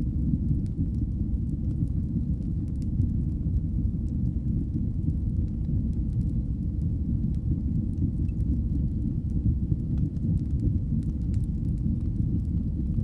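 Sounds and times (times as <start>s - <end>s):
faint fire crackles: 0.0s - 13.0s
fire flames rumbling: 0.0s - 13.0s.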